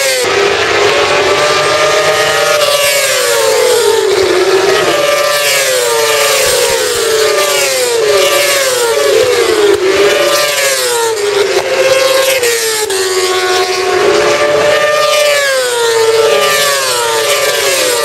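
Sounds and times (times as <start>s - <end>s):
racing motorcycles passing: 0.0s - 18.0s.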